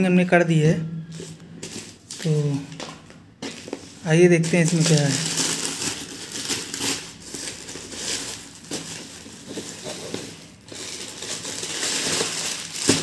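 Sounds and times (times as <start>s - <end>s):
tissue paper and plastic rustling: 1.1s - 13.0s.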